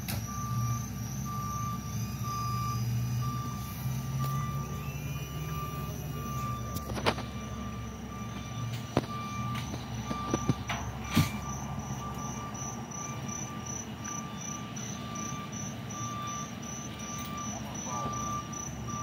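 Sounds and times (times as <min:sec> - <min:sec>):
crickets chirping: 0:00.0 - 0:19.0
idling vehicle engines hum: 0:00.0 - 0:19.0.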